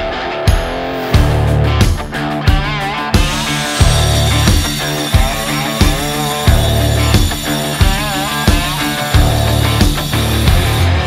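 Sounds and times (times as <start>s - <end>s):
rock music with drum beat: 0.0s - 11.0s.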